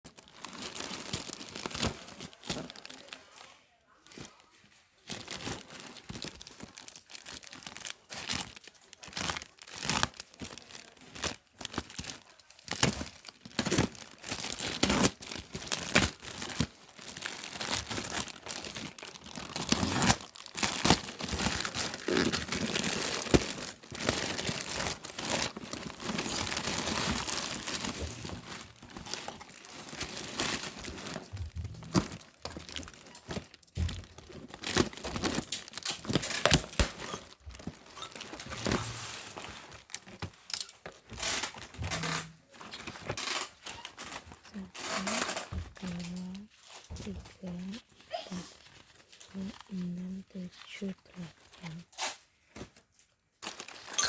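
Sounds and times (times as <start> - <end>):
packaging crinkling and tearing: 0.1 - 3.4, 4.0 - 54.0.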